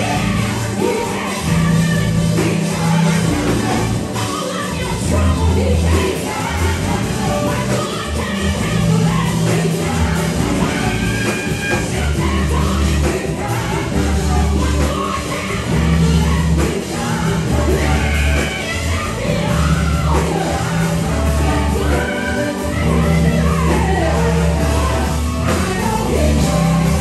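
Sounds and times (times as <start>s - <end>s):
backing vocalists singing: 0.0s - 27.0s
band with drums: 0.0s - 27.0s
lead singer singing: 0.0s - 27.0s.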